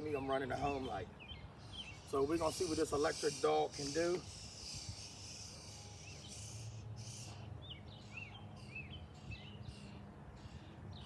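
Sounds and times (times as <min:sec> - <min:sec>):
small bird chirping: 0:00.4 - 0:11.0.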